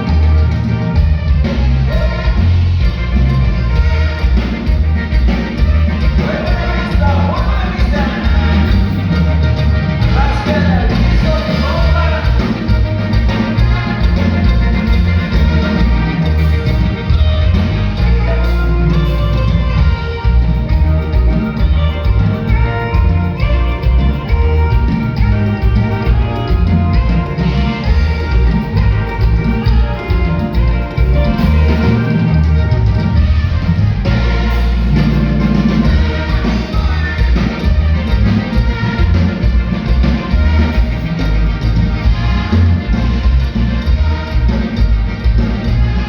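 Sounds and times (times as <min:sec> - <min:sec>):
band playing dance music: 0:00.0 - 0:46.0
strong bass line: 0:00.0 - 0:46.0.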